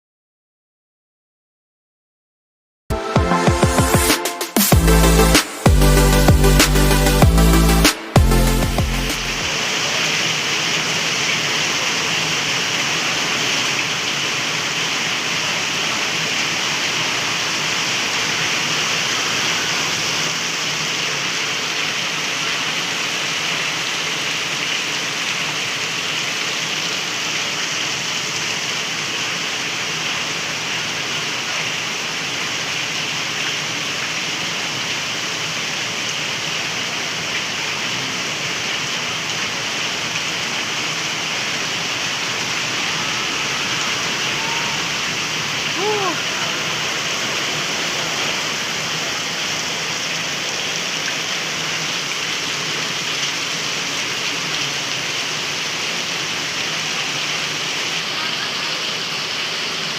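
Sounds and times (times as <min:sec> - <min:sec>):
heavy rain pouring: 0:02.9 - 0:59.9.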